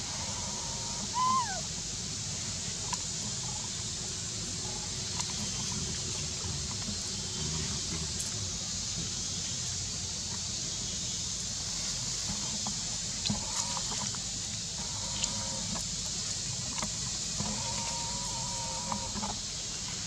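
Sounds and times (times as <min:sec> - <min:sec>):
hiss: 0:00.0 - 0:20.0.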